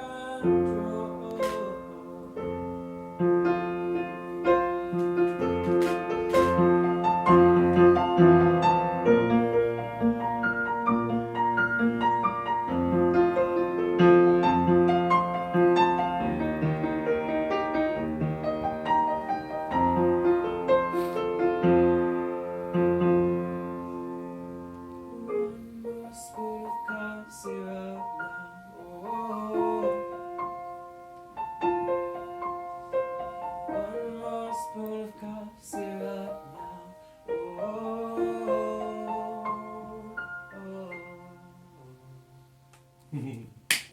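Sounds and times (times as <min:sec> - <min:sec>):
solo piano: 0:00.0 - 0:43.2.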